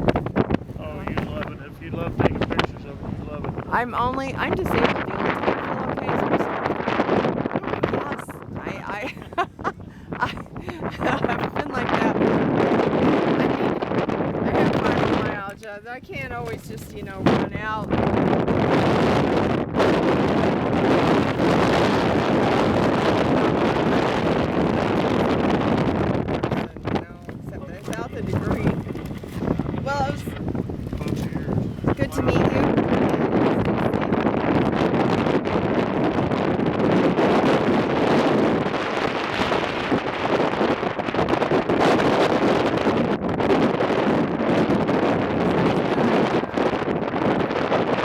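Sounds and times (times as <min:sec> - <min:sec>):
storm wind buffeting microphone: 0:00.0 - 0:48.0.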